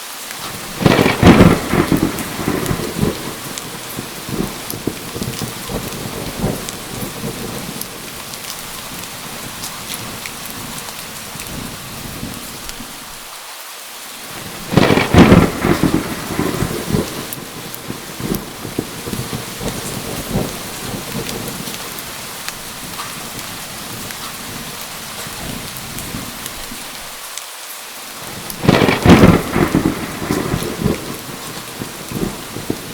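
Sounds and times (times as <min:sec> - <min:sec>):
heavy rain: 0:00.0 - 0:32.9
thunder rumbling: 0:00.4 - 0:13.2, 0:14.3 - 0:27.2, 0:28.2 - 0:32.9.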